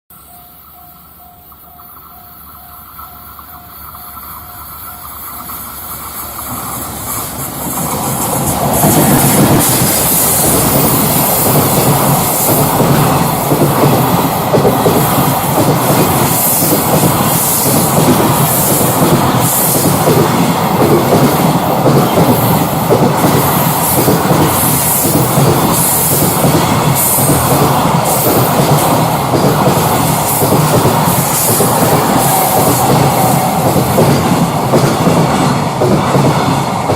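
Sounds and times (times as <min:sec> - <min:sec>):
freight train rumbling past: 0:00.1 - 0:36.9.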